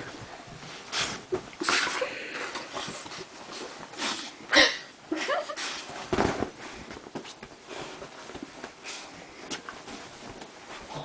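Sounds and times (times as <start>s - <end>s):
bedding rustling: 0.0s - 11.0s.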